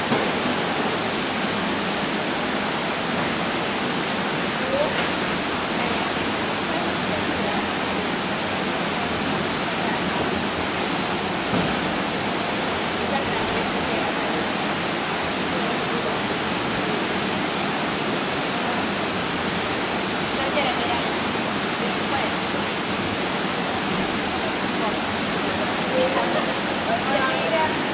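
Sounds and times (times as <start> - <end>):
indoor swimming pool rushing noise: 0.0 - 27.9.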